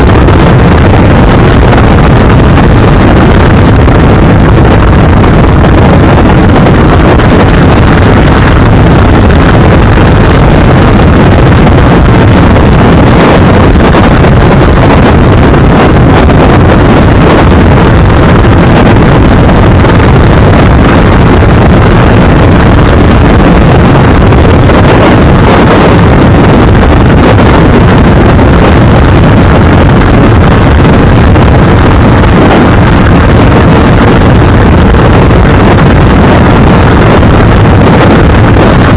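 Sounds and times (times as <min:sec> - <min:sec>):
vehicle engine and road noise: 0:00.0 - 0:38.9
wind rushing over microphone: 0:00.0 - 0:38.9.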